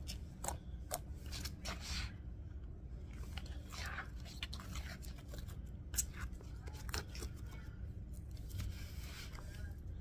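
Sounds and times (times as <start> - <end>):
slime squelching: 0.0 - 10.0.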